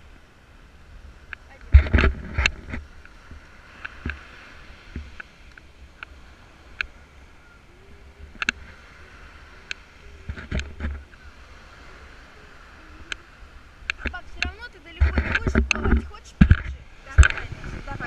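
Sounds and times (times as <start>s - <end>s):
wind and surf rumble: 0.0s - 18.0s.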